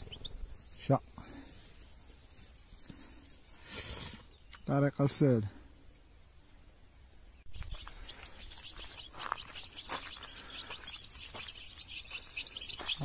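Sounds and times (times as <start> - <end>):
birds twittering: 0.0 - 13.0.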